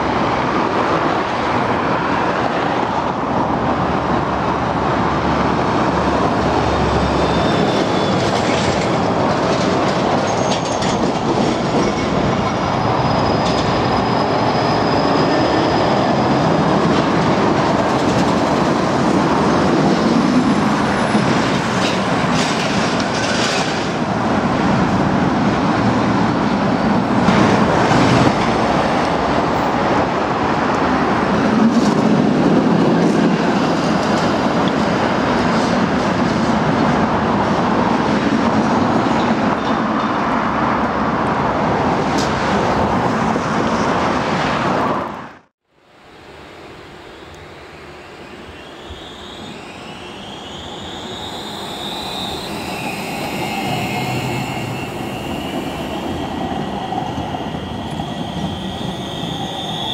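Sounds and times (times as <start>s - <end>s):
tram wheels rumbling on rails: 0.0s - 45.5s, 46.1s - 59.9s.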